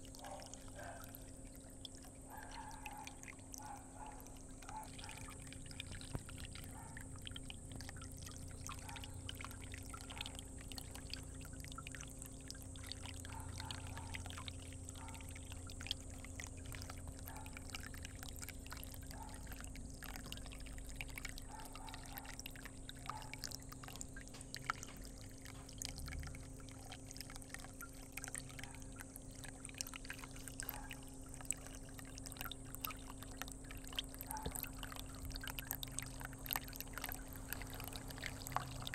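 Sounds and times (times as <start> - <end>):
faint steady hum: 0.0 - 38.9
water splashing and trickling: 0.0 - 38.9.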